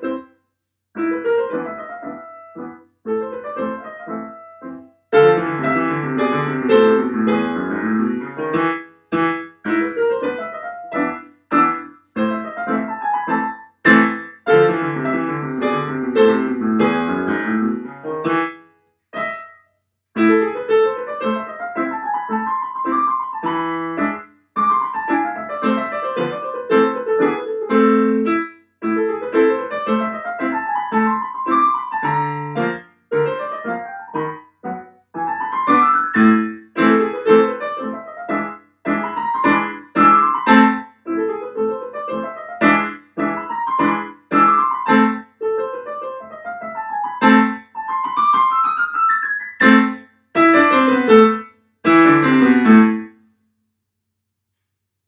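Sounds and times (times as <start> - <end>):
solo piano: 0.0 - 53.2.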